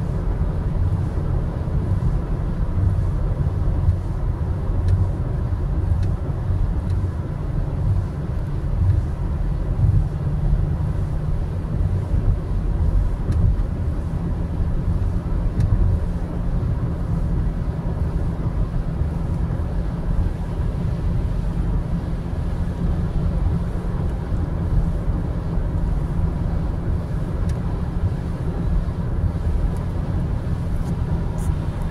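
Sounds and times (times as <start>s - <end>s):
car road noise at highway speed: 0.0s - 31.9s.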